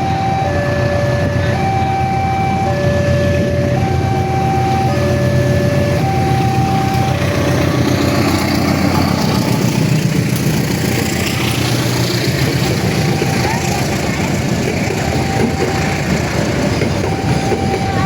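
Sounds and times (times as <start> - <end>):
level-crossing two-tone alarm: 0.0 - 9.7, 12.6 - 18.0
heavy engine running: 0.0 - 18.0
low rumble of vehicles: 0.0 - 18.0.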